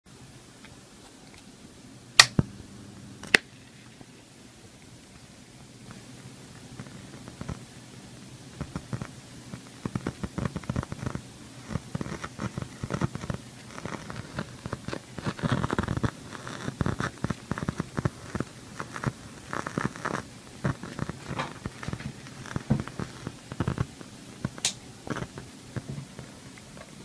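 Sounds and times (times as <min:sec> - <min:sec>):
low steady hum: 0:00.1 - 0:27.0
speaker crackling and popping: 0:02.2 - 0:04.0, 0:05.6 - 0:27.0.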